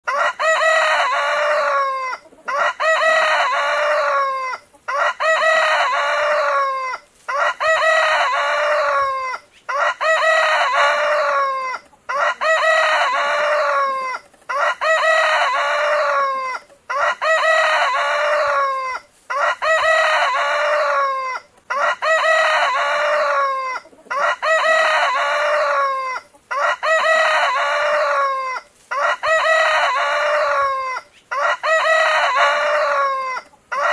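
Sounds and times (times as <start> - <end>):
rooster crowing: 0.1 - 33.9.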